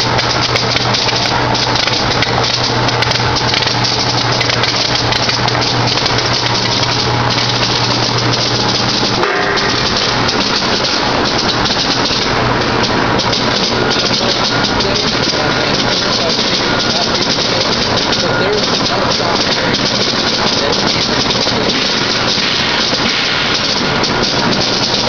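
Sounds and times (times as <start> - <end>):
conveyor rattling clatter: 0.0 - 25.0
machine hum: 0.0 - 25.0.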